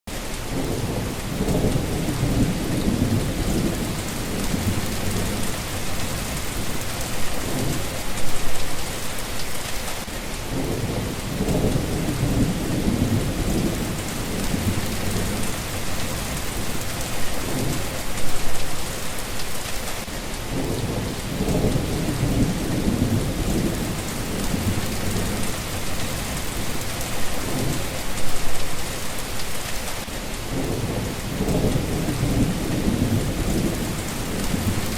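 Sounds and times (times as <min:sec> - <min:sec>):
steady rain falling: 0:00.1 - 0:34.9
thunder rumbling: 0:00.5 - 0:08.9, 0:10.5 - 0:18.6, 0:20.5 - 0:28.7, 0:30.5 - 0:34.9.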